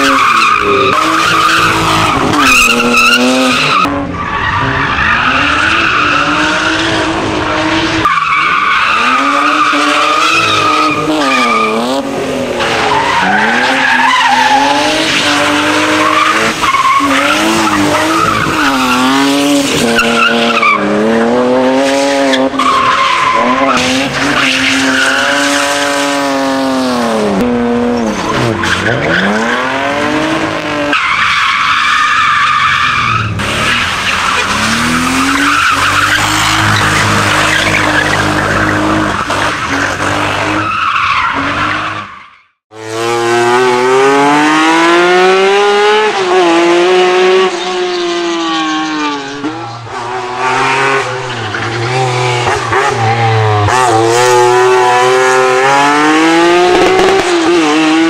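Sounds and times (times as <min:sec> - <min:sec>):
car engine revving: 0:00.0 - 0:31.8, 0:32.4 - 0:58.0.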